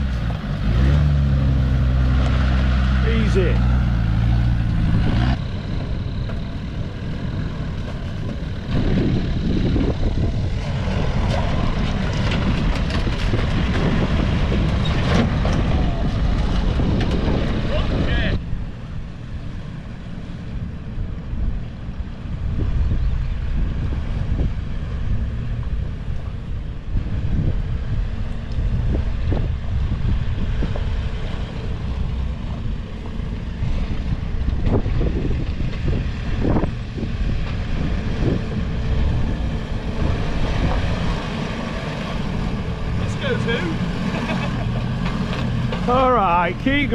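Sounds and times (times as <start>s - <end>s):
vehicle rumbling over rough ground: 0.0s - 46.9s
wind buffeting microphone: 0.0s - 46.9s.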